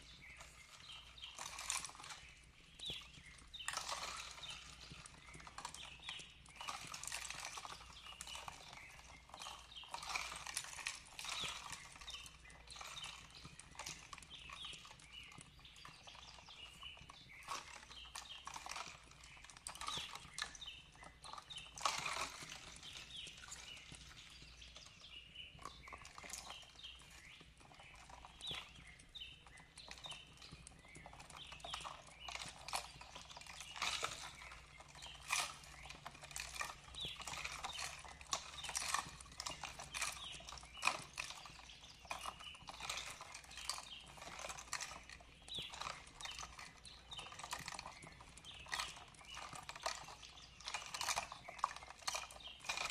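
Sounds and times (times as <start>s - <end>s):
birds chirping: 0.0s - 52.9s
wood fire crackling: 0.0s - 52.9s.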